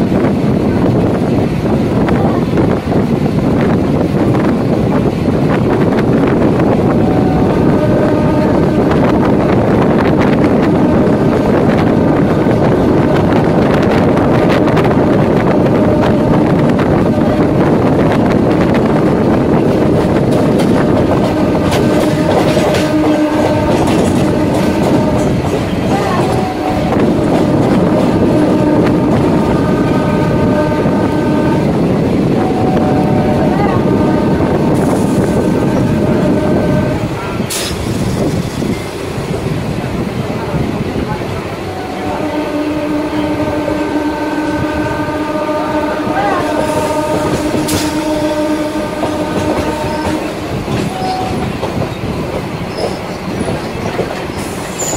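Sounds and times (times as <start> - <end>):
rail joint clicks: 0.0 - 54.9
train wheels rumbling on rails: 0.0 - 54.9.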